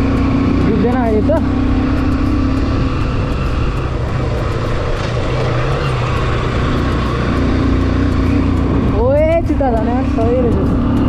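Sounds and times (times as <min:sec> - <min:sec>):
constant rushing noise: 0:00.0 - 0:11.0
motorcycle engine running: 0:00.0 - 0:11.0.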